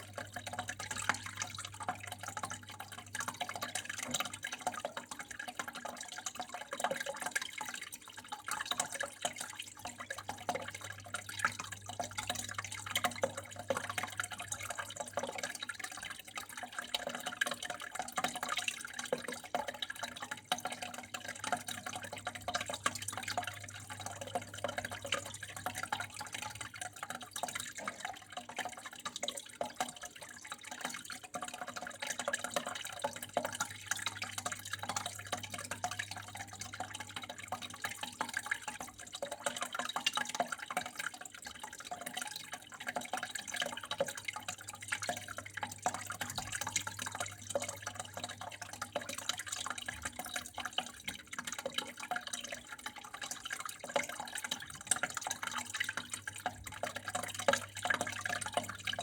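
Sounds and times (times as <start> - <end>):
water drips and patters: 0.0 - 59.0.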